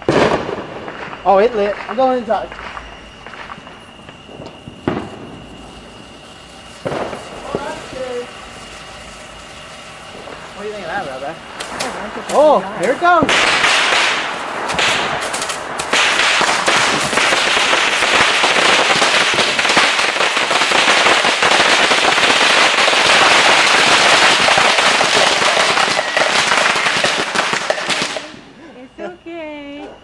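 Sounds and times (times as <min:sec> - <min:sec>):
bottle rockets hissing and popping: 0:00.0 - 0:28.4.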